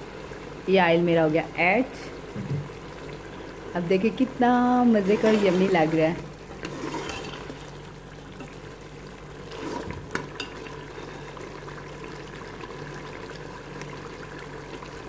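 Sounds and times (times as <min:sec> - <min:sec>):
meat sizzling in oil: 0:02.8 - 0:15.0.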